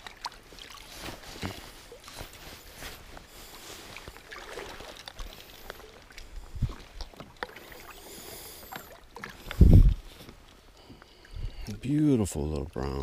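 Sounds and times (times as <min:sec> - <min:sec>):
light water splashing: 0:00.0 - 0:13.0.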